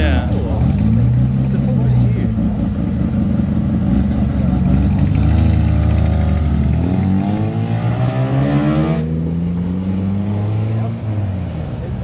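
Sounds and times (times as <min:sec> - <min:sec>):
rotary car engine revving: 0:00.0 - 0:11.6.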